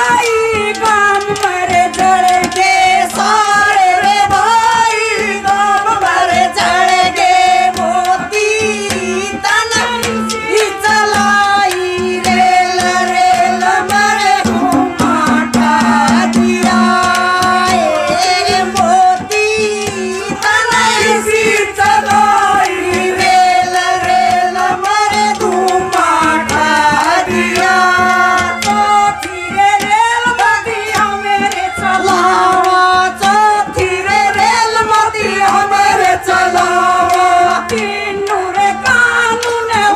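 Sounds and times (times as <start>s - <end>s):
hand drum percussion: 0.0s - 39.9s
women singing folk song: 0.0s - 39.9s.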